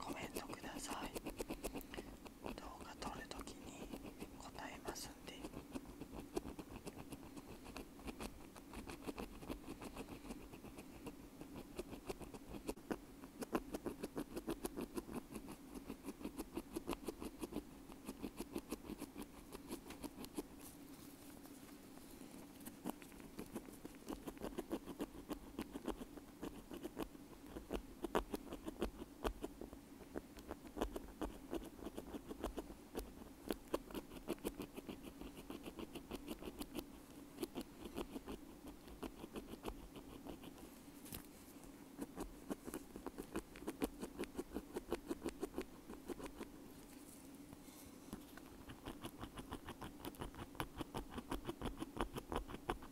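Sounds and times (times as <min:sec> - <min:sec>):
ear pick scratching earbud: 0:00.0 - 0:41.3, 0:42.0 - 0:46.5, 0:48.0 - 0:52.9.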